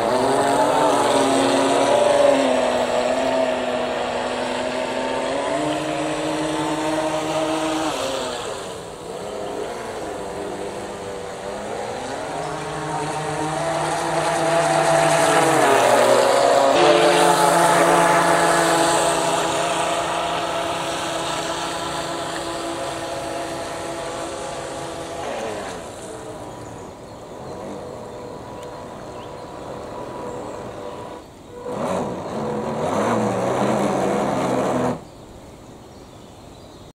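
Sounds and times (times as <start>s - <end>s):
model boat electric motors whining: 0.0s - 35.6s.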